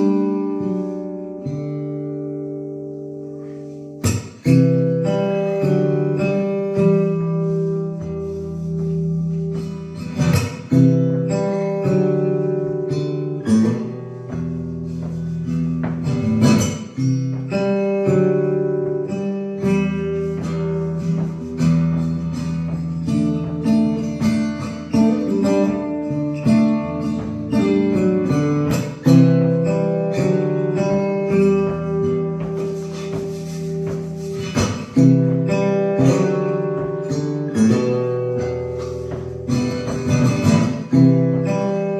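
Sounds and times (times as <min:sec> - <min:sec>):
solo acoustic guitar: 0:00.0 - 0:41.9.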